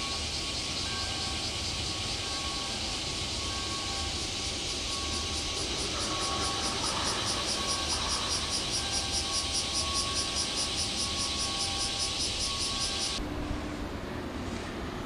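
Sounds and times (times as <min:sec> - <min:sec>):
cicada singing in pulses: 0:00.0 - 0:13.2.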